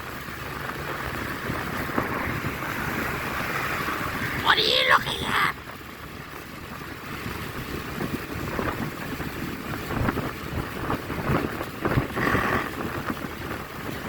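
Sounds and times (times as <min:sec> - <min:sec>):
wind buffeting microphone: 0:00.0 - 0:04.5, 0:05.6 - 0:14.0
vehicle and road rumble: 0:00.0 - 0:14.0.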